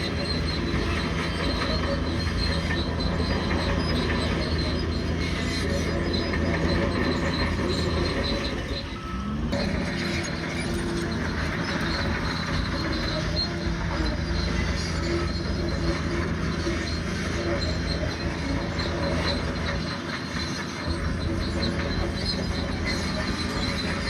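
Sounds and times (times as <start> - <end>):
low diesel engine: 0.0 - 24.0
steel tracks squealing: 0.0 - 24.0.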